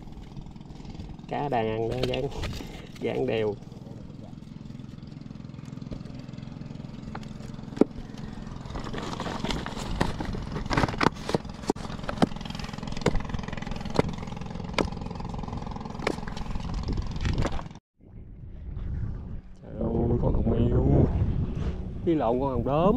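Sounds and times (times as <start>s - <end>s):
engine running: 0.0s - 22.9s.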